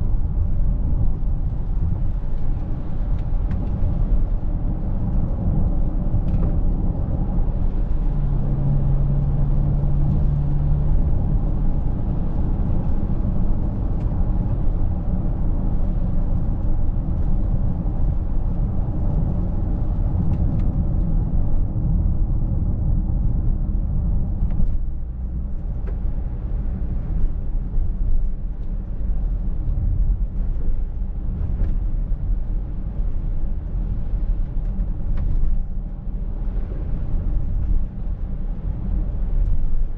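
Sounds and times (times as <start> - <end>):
car road and drivetrain rumble: 0.0 - 39.9.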